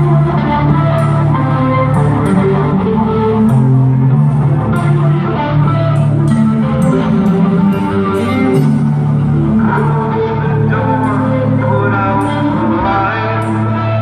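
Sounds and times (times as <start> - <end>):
bass and guitar notes: 0.0 - 14.0.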